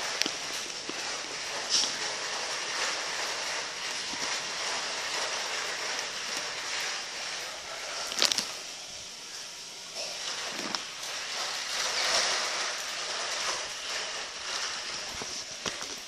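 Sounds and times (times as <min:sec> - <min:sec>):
plastic wheels rattling on tiles: 0:00.0 - 0:16.0.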